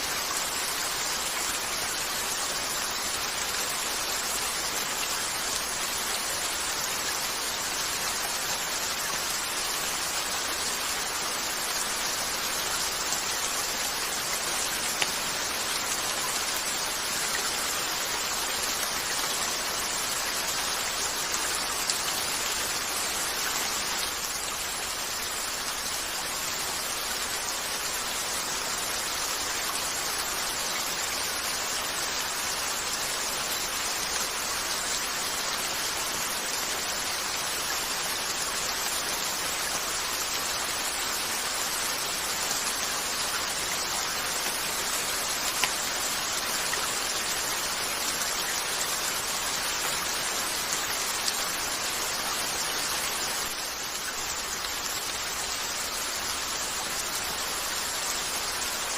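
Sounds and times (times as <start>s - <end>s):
rain on a window: 0.0s - 58.9s.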